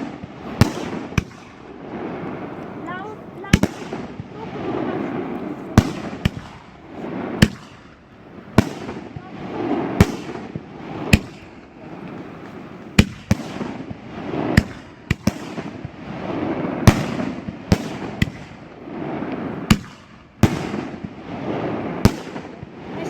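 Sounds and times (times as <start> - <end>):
firework bangs: 0.0 - 23.0.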